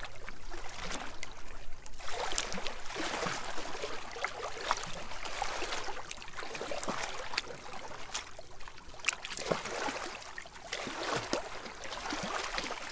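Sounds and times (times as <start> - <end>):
seawater sloshing and trickling: 0.0 - 12.9.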